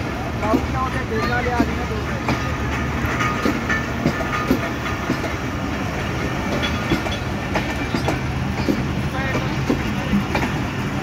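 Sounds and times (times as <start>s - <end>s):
train wheels rumbling on rails: 0.0s - 11.0s
wheels clicking over rail joints: 0.0s - 11.0s.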